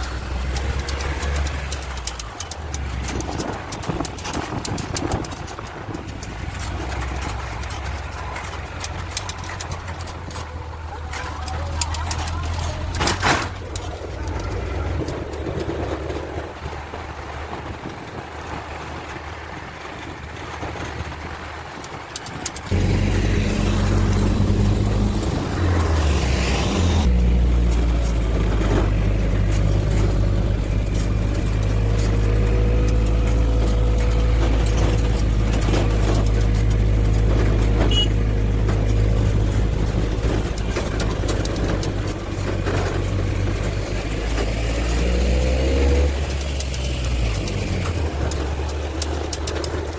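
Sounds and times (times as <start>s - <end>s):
vehicle engine humming: 0.0s - 49.9s.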